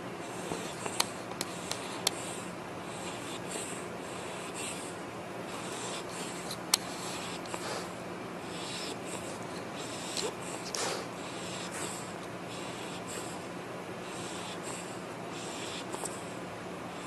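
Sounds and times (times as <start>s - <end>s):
pet snoring softly: 0.2s - 17.0s.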